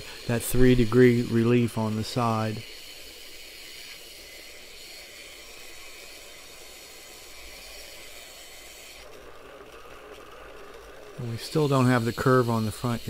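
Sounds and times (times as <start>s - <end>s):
bench grinder grinding steel: 0.0s - 13.0s.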